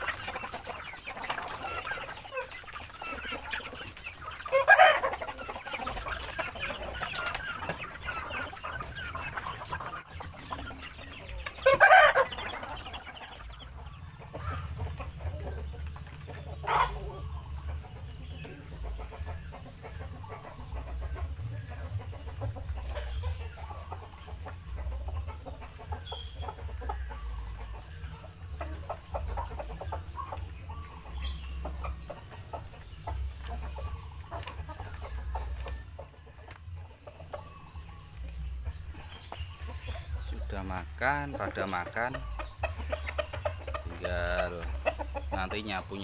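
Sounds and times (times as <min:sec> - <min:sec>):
roosters clucking and calling: 0:00.0 - 0:46.0.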